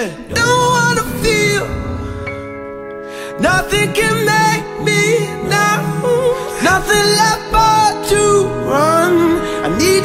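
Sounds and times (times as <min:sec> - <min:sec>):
person singing: 0:00.0 - 0:10.0
held chords: 0:00.2 - 0:10.0.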